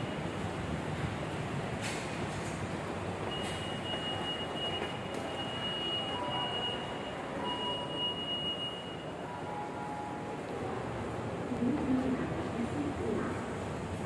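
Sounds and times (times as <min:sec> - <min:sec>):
high train whine: 0:02.7 - 0:14.0.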